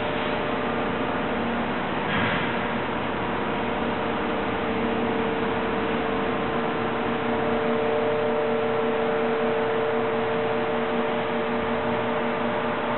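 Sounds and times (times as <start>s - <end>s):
industrial machinery humming: 0.0s - 12.9s.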